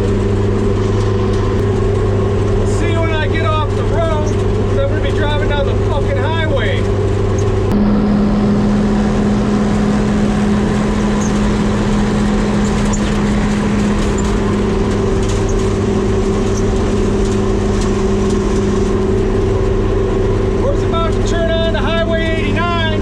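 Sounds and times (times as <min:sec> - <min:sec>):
baler engine droning: 0:00.0 - 0:23.0.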